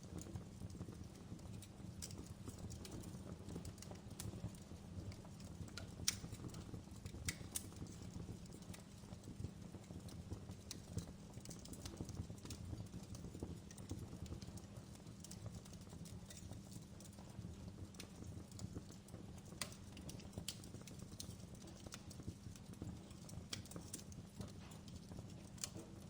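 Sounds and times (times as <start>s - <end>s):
wood fire crackling: 0.0s - 26.0s
fire pops and snaps: 0.1s - 26.0s.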